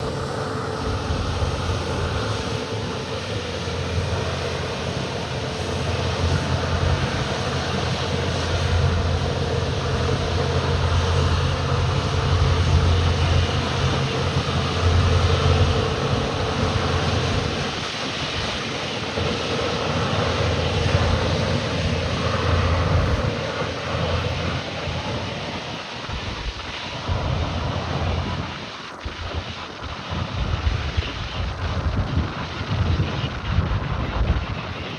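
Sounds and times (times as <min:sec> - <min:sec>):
jet engines passing: 0:00.0 - 0:34.9.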